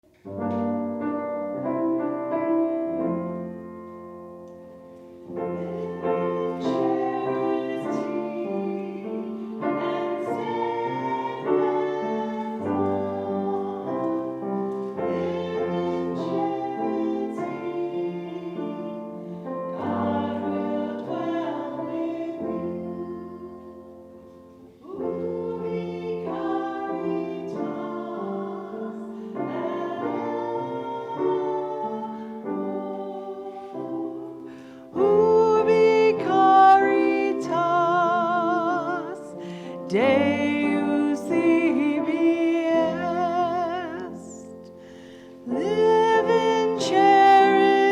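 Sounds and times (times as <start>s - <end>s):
piano accompaniment: 0.0s - 47.9s
voices singing a hymn: 5.0s - 47.9s.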